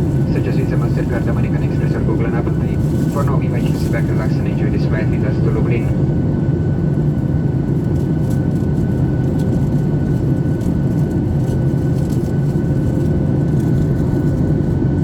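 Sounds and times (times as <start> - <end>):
jet engine cabin roar: 0.0 - 15.0.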